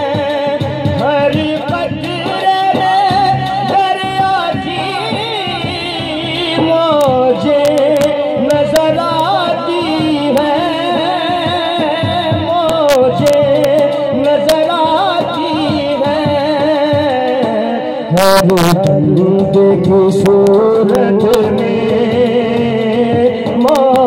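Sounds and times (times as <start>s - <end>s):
instrumental accompaniment: 0.0s - 24.0s
sharp percussive strikes: 0.0s - 24.0s
wordless sung melody: 0.0s - 24.0s.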